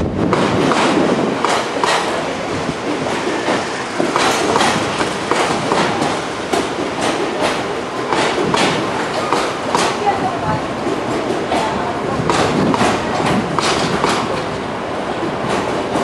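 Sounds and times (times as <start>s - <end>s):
train rumble: 0.0s - 16.0s
train wheels clattering over rail joints: 0.0s - 16.0s.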